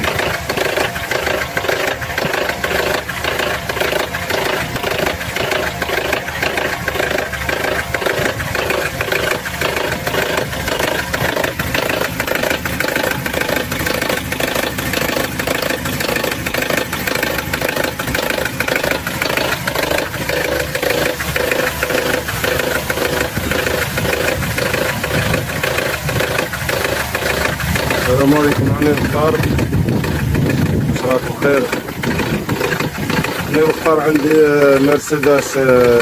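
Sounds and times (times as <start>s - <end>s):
petrol engine idling: 0.0s - 36.0s
regular engine knock: 0.0s - 36.0s.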